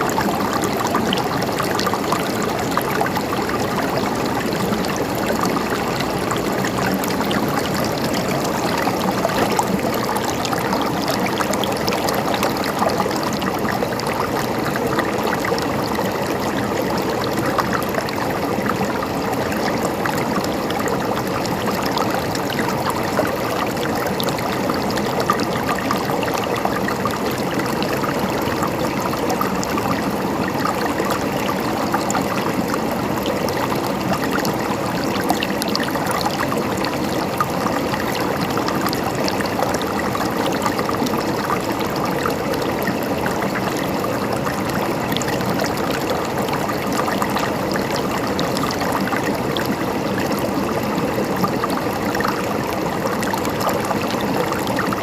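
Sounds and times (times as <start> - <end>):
river flowing over stones: 0.0 - 55.0.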